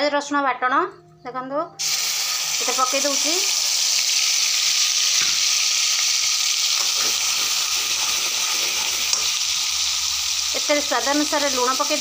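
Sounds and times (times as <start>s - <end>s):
paste sizzling in hot oil: 1.8s - 12.0s.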